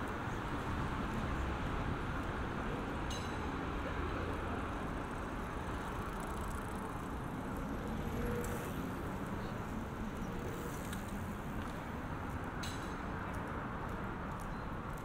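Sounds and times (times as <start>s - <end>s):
city road traffic hum: 0.0s - 15.0s.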